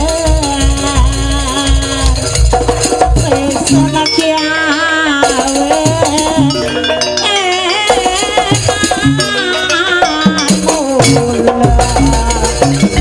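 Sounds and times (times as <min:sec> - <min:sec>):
beaten metallophones: 0:00.0 - 0:13.0
drum strokes: 0:00.0 - 0:13.0.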